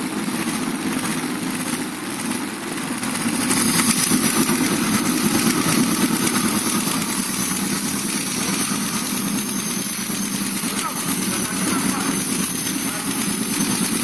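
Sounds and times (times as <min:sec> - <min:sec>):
engine idling with valve tapping: 0:00.0 - 0:14.0.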